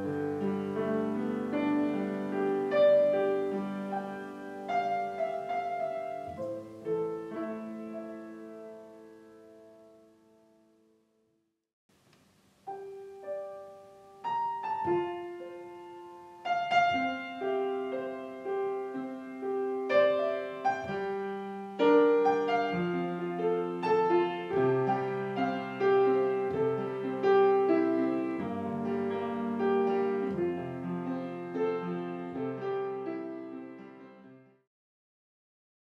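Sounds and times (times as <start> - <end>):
slow gentle piano piece: 0.0 - 11.2, 11.9 - 34.7.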